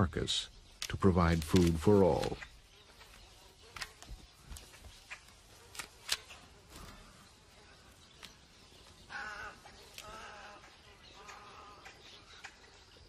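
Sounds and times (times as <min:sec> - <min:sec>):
vultures clicking and snapping: 0:00.6 - 0:07.1, 0:08.0 - 0:13.0.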